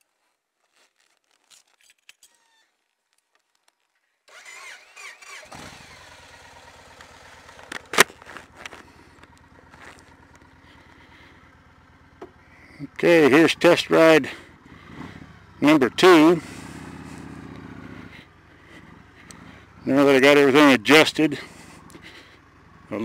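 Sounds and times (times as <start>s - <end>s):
starter motor whirring: 4.3s - 22.9s
motorcycle engine idling: 4.3s - 23.0s.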